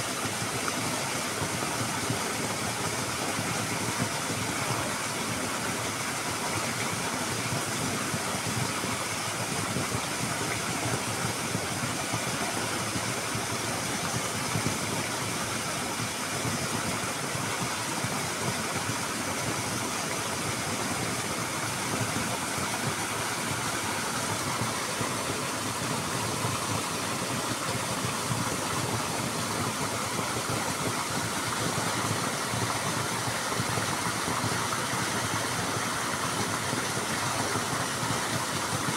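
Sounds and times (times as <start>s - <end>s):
water falling and splashing: 0.0s - 38.9s.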